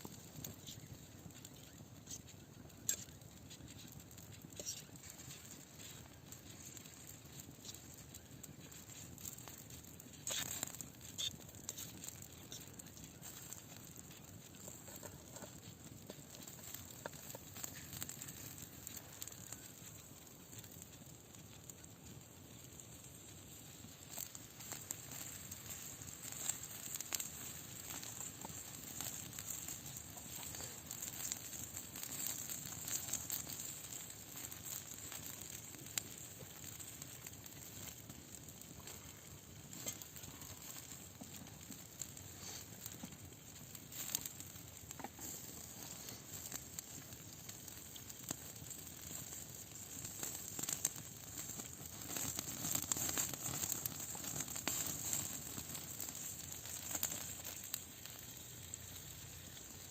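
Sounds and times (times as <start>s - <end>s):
campfire crackling: 0.0s - 59.9s
food sizzling: 0.0s - 59.9s.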